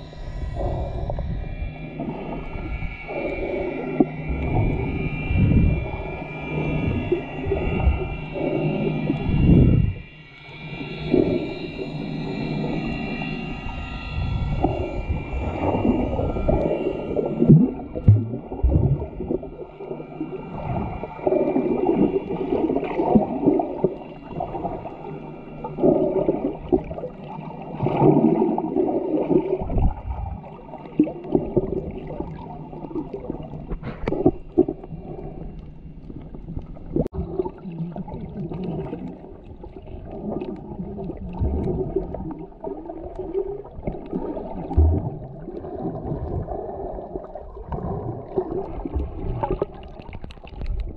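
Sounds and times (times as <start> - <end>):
underwater moving water and bubbles: 0.0 - 50.9.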